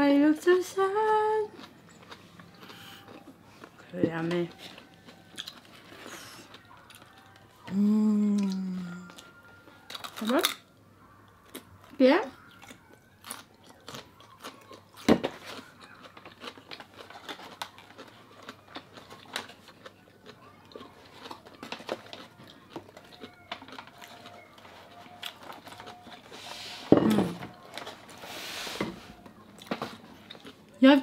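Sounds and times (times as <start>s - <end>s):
quiet chewing: 0.7s - 31.0s.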